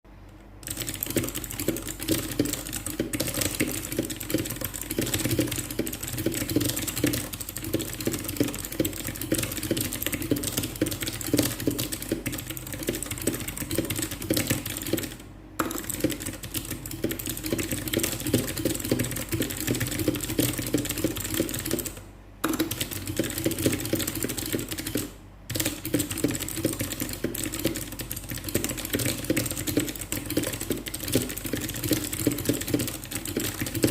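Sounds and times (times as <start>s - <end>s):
fast typing on a clicky keyboard: 0.6s - 33.9s.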